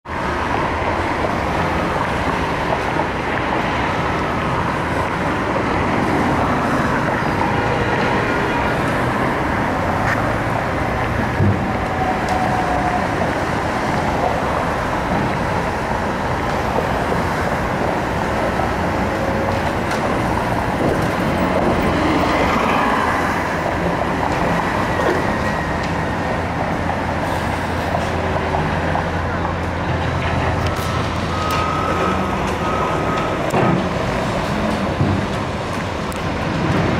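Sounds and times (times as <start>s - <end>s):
cars driving past: 0.1s - 36.9s.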